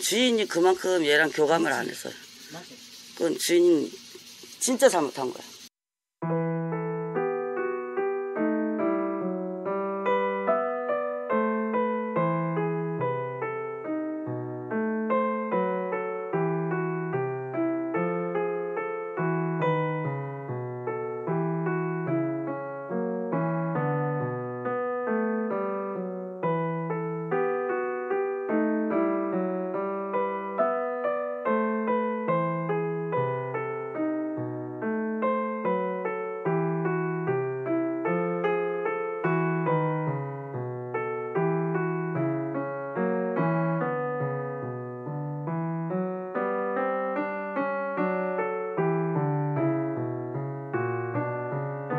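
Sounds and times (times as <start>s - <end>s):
gentle piano melody: 0.0s - 5.6s, 6.2s - 51.9s.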